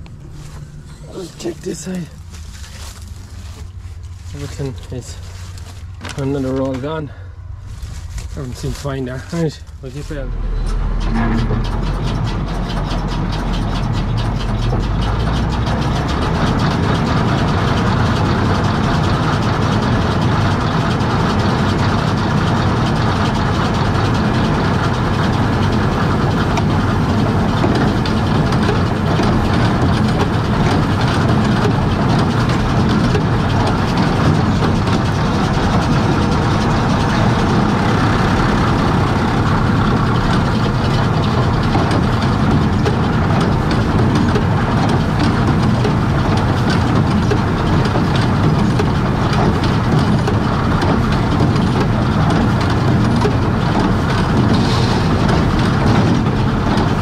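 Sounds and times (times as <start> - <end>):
baler mechanical clatter: 0.0 - 57.0
tractor engine: 0.0 - 57.0.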